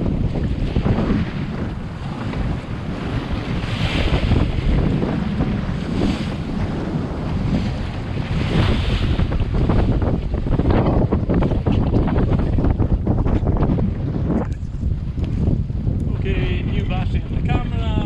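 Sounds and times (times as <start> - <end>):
water rushing along hull: 0.0 - 18.0
wind buffeting microphone: 0.0 - 18.0.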